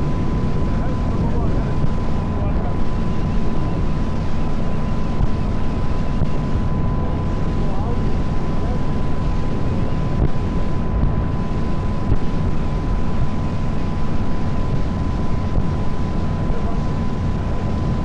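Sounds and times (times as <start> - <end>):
boat engine running: 0.0 - 18.0
thin steady whine: 0.0 - 18.0
wind buffeting microphone: 0.0 - 18.0.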